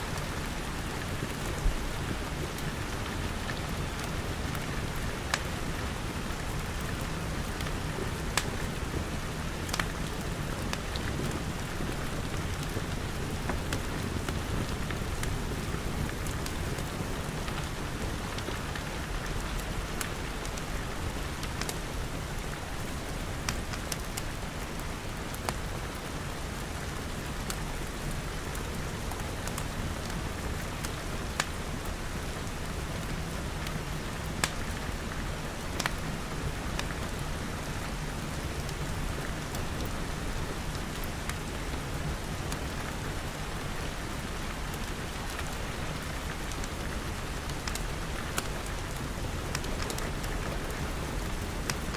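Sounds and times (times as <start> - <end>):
rain on glass: 0.1 - 51.9
wood fire crackling: 0.1 - 51.9.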